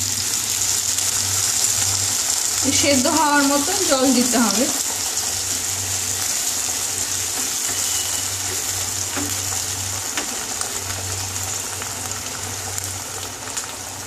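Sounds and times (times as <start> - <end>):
curry sizzling in a pan: 0.0 - 14.0.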